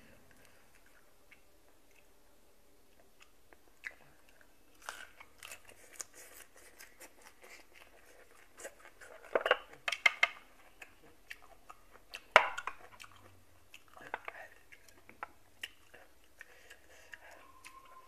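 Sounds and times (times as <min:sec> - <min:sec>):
chewing: 0:00.3 - 0:02.1, 0:02.9 - 0:18.0.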